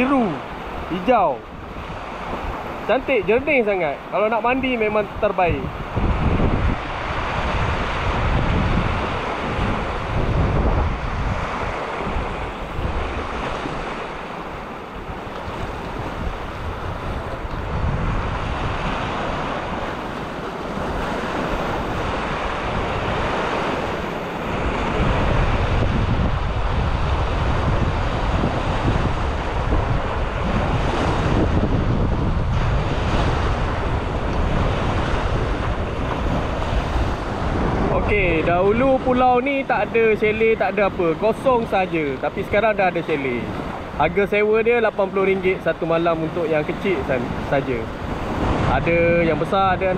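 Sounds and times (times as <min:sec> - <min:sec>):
small waves breaking on shore: 0:00.0 - 0:49.9
wind buffeting microphone: 0:00.0 - 0:49.9.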